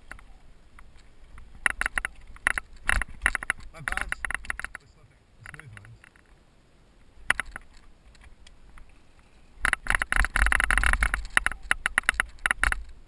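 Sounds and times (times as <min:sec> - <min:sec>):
bike rattling over rocks: 0:00.0 - 0:06.4, 0:07.2 - 0:08.9, 0:09.6 - 0:13.0.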